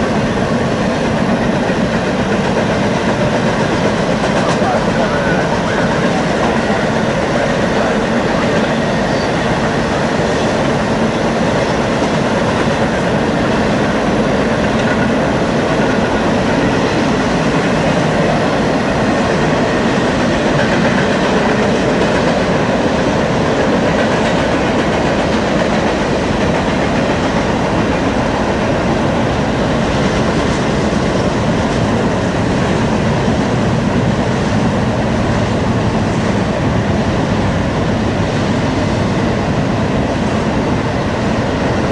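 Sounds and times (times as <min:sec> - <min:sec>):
railroad cars rolling on rails: 0:00.0 - 0:41.9.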